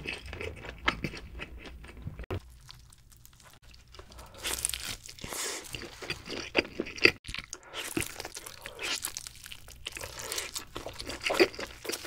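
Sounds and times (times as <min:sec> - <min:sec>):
chewing pizza crunches: 0:00.0 - 0:12.0.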